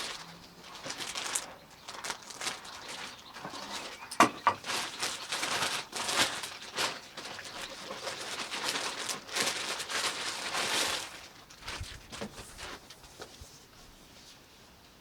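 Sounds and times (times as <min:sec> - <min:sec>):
cardboard rustling and scraping: 0:00.8 - 0:14.4.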